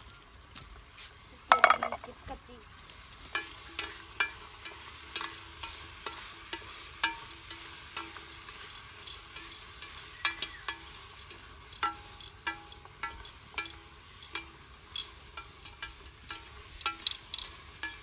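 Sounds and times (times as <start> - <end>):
vegetables sizzling in pot: 0.0 - 18.0
utensil scraping metal pot: 3.2 - 18.0.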